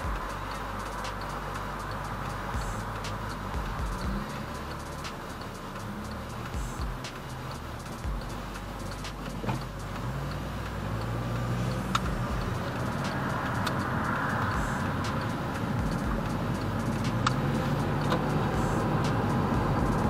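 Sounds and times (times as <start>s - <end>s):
car engine accelerating: 0.0s - 20.0s
tyre and road noise: 0.0s - 20.0s.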